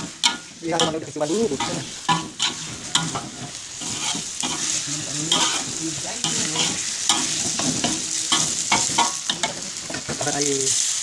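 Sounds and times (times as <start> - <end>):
fish sizzling in wok: 0.0 - 11.0
spatula scraping wok: 0.0 - 11.0.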